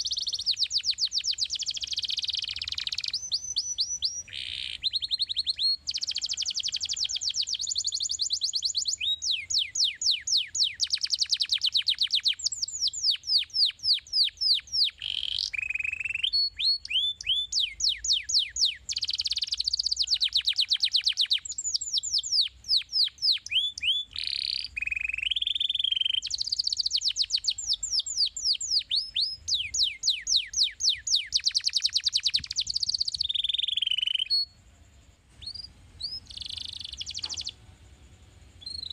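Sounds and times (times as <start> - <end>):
canary singing: 0.0 - 37.8, 38.4 - 38.9.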